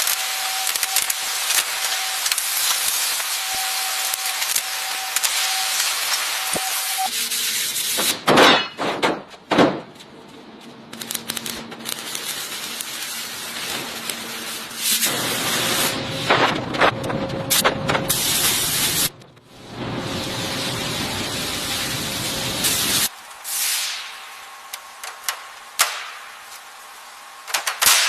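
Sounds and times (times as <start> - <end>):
workshop tool hissing and scraping: 0.0 - 8.3, 11.0 - 27.2.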